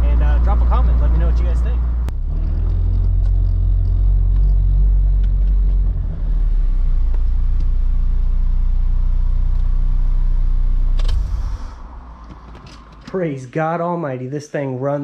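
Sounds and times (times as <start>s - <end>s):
car engine low rumble: 0.0s - 13.5s.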